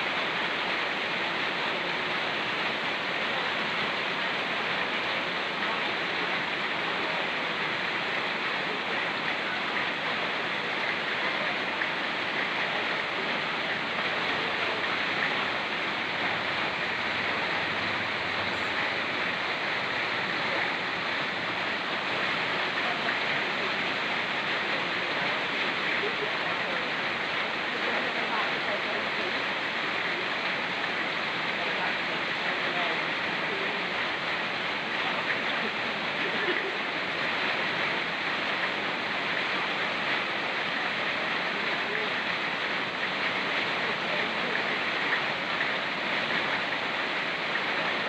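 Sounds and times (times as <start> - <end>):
mountain stream rushing: 0.0 - 48.0
rain falling on forest: 0.0 - 48.0.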